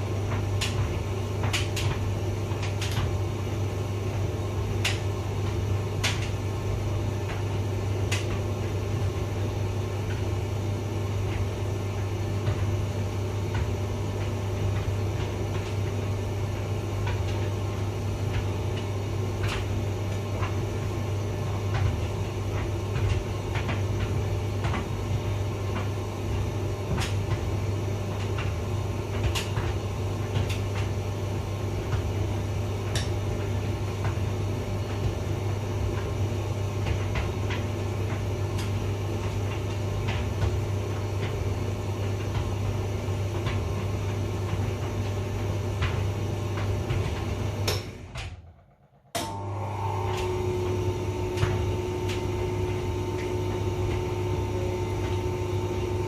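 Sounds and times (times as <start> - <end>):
tumble dryer motor hum: 0.0 - 56.0.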